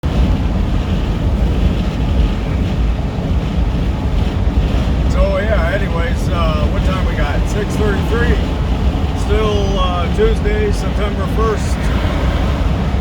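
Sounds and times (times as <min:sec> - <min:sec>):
truck engine rumbling: 0:00.0 - 0:13.0
wind buffeting microphone: 0:00.0 - 0:13.0.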